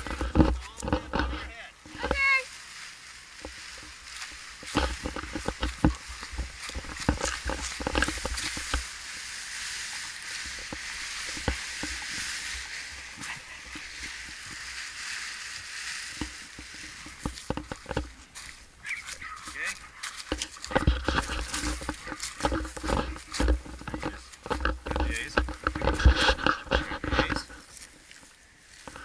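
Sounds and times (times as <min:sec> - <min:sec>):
nylon wing rustling over grass: 0:00.0 - 0:29.0.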